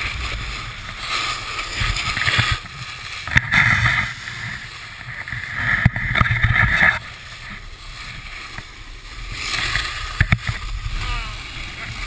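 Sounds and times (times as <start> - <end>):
ski edges scraping packed snow: 0.0 - 12.0.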